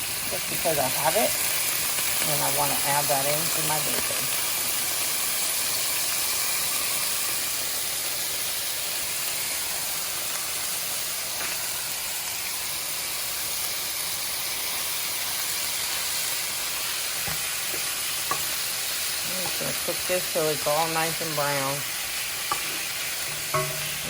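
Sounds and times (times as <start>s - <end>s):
bacon sizzling in a frying pan: 0.0s - 24.0s.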